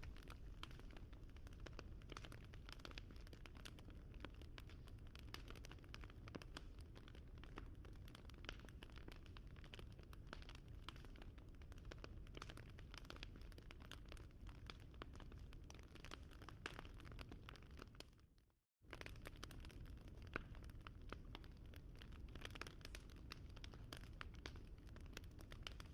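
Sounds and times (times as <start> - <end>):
wood fire crackling: 0.0 - 17.6, 18.9 - 25.9.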